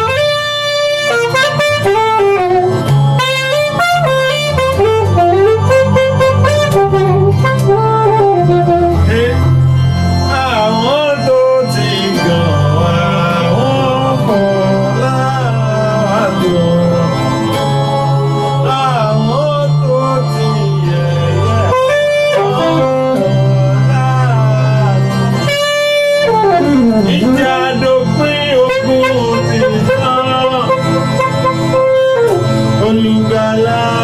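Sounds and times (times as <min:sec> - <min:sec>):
long steady bass notes: 0:00.0 - 0:34.0
wavering sliding lead melody: 0:00.0 - 0:34.0.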